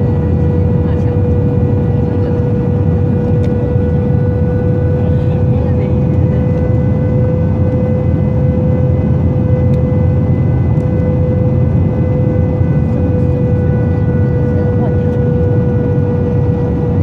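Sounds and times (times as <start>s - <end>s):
engine and airflow rumble: 0.0s - 17.0s
steady whine: 0.0s - 17.0s.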